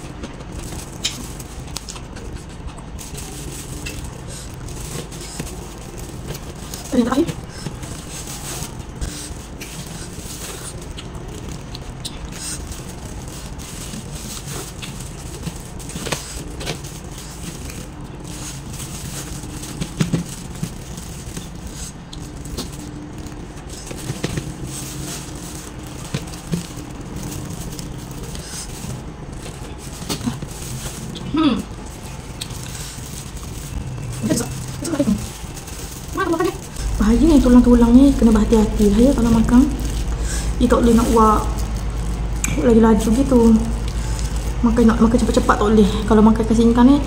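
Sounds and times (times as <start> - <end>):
plastic glove crinkling: 0.0 - 47.0
steady low hum: 0.0 - 47.0.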